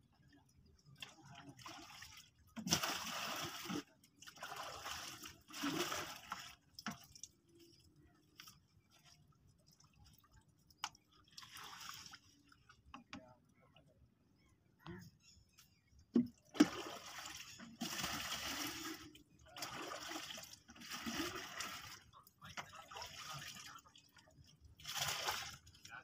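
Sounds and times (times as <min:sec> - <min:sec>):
water splashing from buckets: 0:00.7 - 0:07.8, 0:08.4 - 0:13.0, 0:16.1 - 0:26.0.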